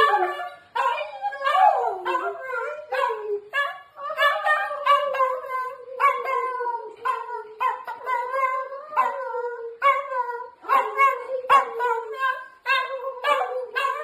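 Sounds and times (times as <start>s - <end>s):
dog yelping and howling: 0.0s - 14.0s.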